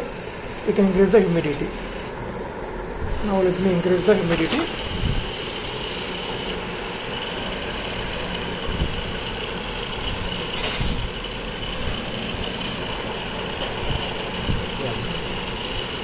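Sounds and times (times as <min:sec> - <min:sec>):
hot air blower running: 0:00.0 - 0:16.0.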